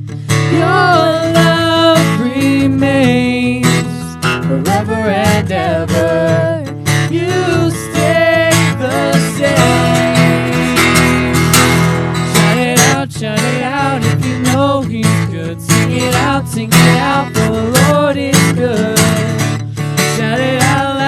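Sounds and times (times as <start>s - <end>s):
strummed acoustic guitar: 0.0s - 21.0s
person singing: 0.4s - 11.4s, 12.4s - 19.4s.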